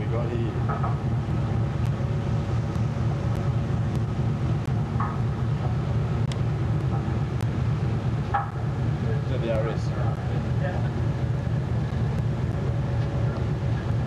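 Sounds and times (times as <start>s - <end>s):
ship rumbling at sea: 0.0s - 14.0s.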